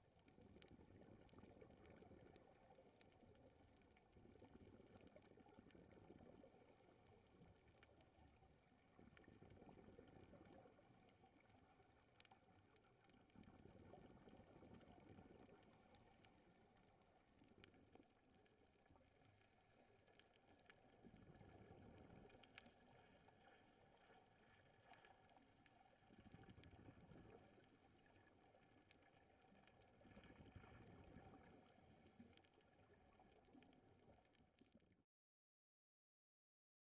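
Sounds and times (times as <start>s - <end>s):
underwater exhaled bubbles: 0.0s - 35.0s
faint clicks: 0.1s - 34.8s.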